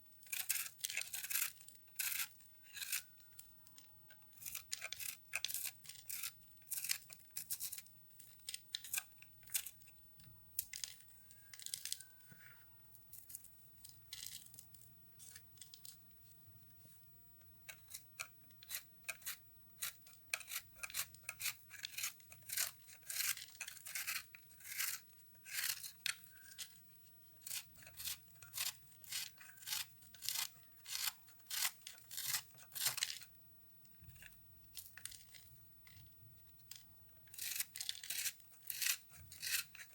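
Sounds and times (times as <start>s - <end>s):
brittle soap crunching and crackling: 0.0s - 16.3s, 17.4s - 39.9s.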